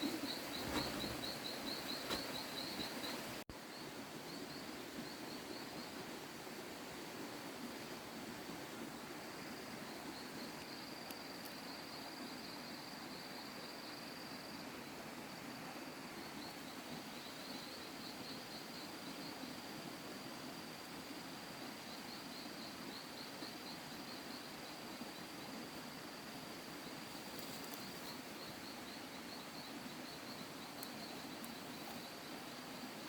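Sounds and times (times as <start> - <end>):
insects chirring: 0.0 - 6.0, 9.0 - 33.0.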